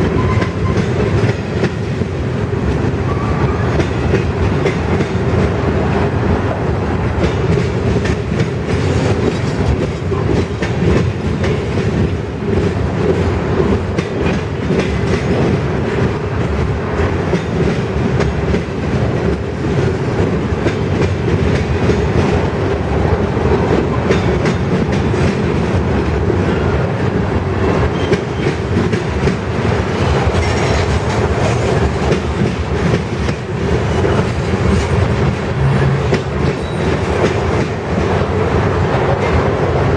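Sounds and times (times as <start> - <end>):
freight train rumbling: 0.0 - 39.9.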